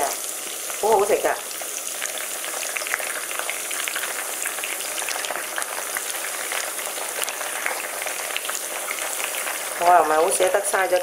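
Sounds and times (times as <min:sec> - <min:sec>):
mushrooms sizzling in oil: 0:00.0 - 0:11.0.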